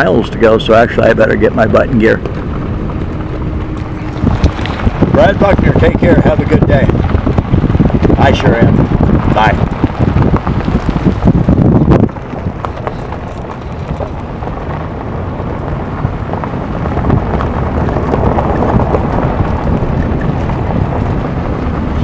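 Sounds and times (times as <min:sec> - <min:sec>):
tyres rumbling on gravel: 0:00.0 - 0:22.0
wind buffeting microphone: 0:00.0 - 0:22.0.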